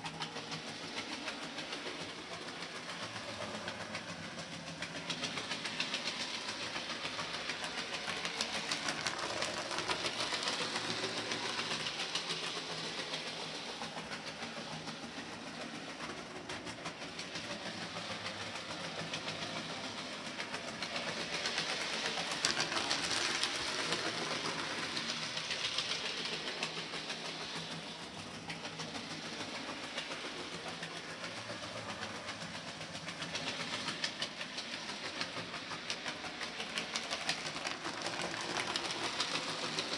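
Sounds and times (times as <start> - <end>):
model train rattling on track: 0.0 - 39.9.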